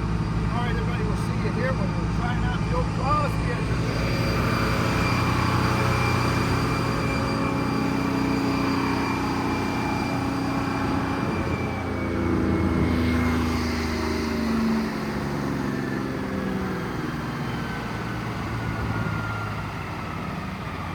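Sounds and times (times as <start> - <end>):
sawmill engine running: 0.0 - 20.9.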